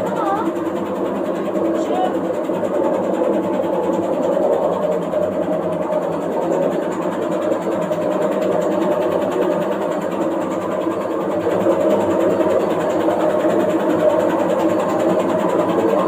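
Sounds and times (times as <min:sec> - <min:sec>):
washing machine shaking: 0:00.0 - 0:16.0.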